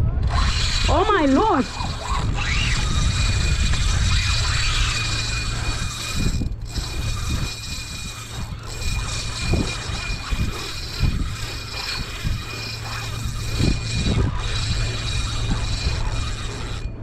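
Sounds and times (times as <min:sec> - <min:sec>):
wind rumble on microphone: 0:00.0 - 0:17.0
fishing reel drag buzzing: 0:00.2 - 0:17.0.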